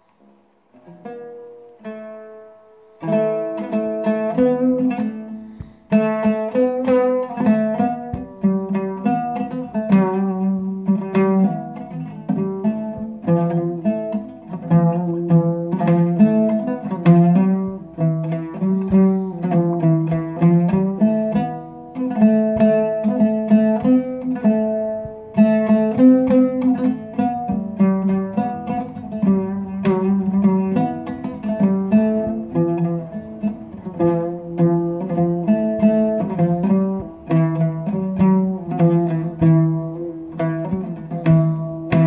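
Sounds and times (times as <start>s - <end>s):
oud melody of plucked notes: 0.0s - 42.0s.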